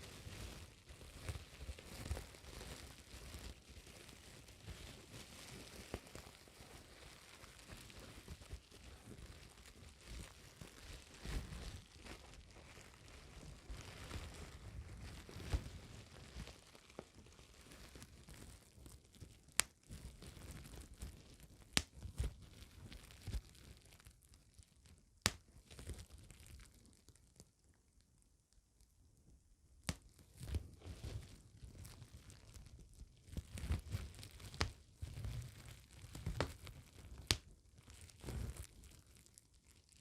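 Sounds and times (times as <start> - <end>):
bubble wrap crinkling: 0.0 - 28.0, 29.8 - 40.0
bubble wrap popping: 0.0 - 28.7, 29.7 - 40.0.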